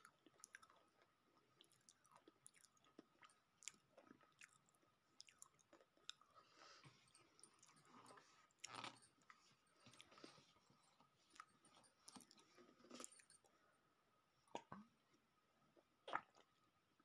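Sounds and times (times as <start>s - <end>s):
person chewing and swallowing: 0.0s - 13.5s, 15.8s - 16.6s.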